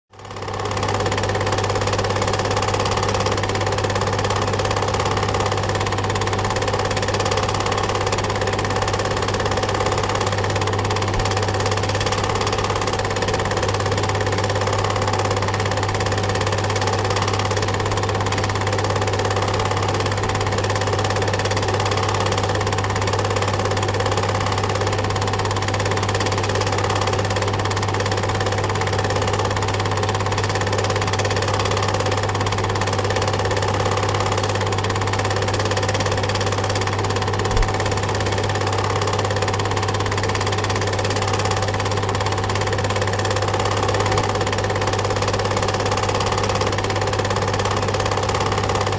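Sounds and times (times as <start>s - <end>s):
film projector whirring: 0.1s - 48.9s.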